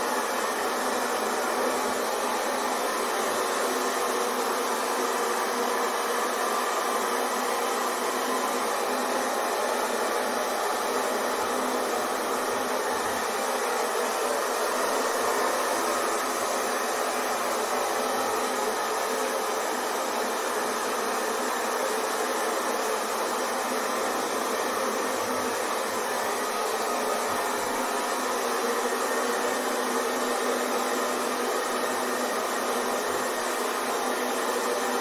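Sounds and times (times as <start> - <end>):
hair dryer running: 0.0 - 35.0.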